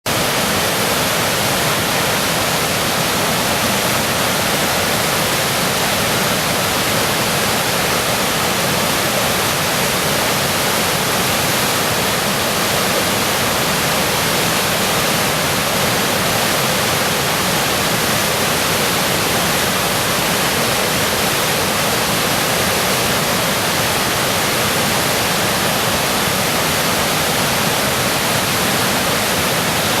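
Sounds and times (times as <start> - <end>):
floodwater rushing: 0.1 - 30.0.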